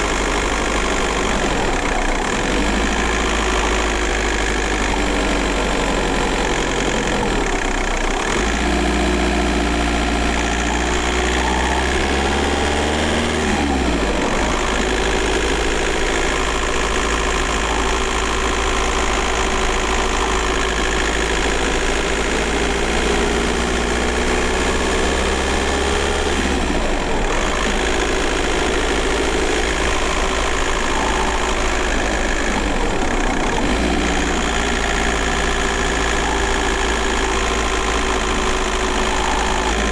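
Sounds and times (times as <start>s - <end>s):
car engine running from inside: 0.0s - 39.9s.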